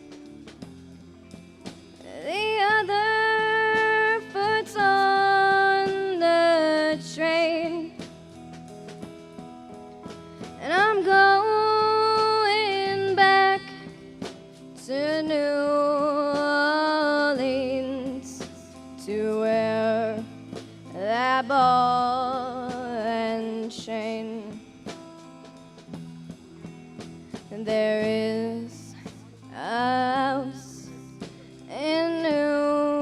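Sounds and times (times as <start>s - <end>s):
guitar chords: 0.0s - 33.0s.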